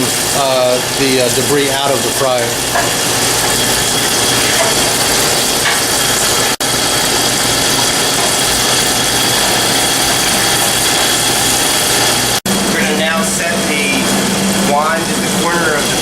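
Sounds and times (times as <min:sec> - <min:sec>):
pump running with oil rushing: 0:00.0 - 0:16.0.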